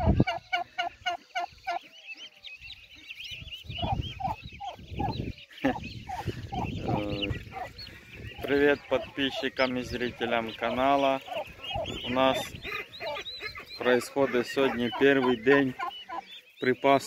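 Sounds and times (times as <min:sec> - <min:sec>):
ducklings peeping: 0:00.0 - 0:17.0
ducks calling: 0:00.0 - 0:17.0.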